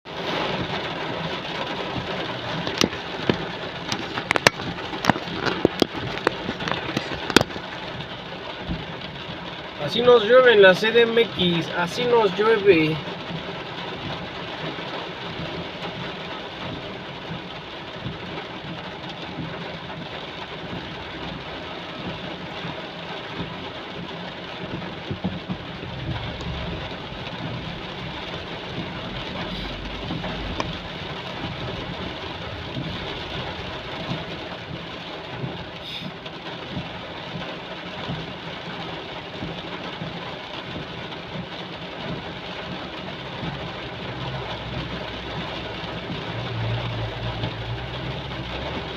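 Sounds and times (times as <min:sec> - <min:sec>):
heavy rain falling: 0:00.1 - 0:48.9.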